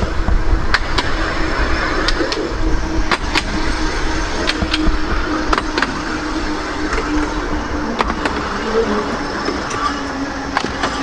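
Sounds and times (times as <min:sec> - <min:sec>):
tram rumbling on rails: 0:00.0 - 0:11.0
wheels clicking over rail joints: 0:00.0 - 0:11.0.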